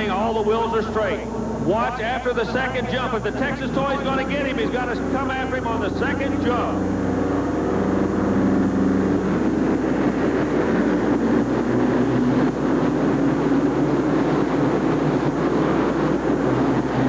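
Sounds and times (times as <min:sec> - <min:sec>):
monster truck engines at full throttle: 0:00.0 - 0:17.0.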